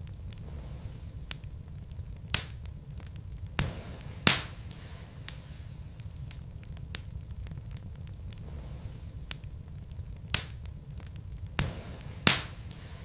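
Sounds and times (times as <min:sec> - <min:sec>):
fire rumbling: 0:00.0 - 0:13.0
wood crackling and popping: 0:00.0 - 0:13.0.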